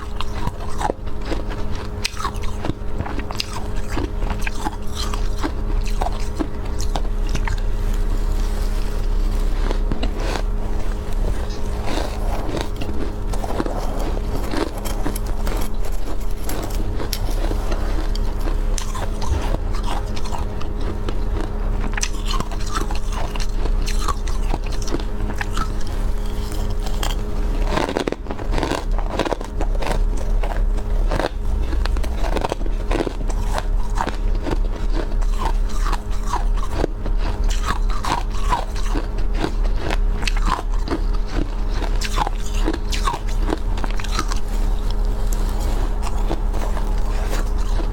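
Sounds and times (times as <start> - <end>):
person crunching frost: 0.0 - 47.9
steady low hum: 0.0 - 47.9.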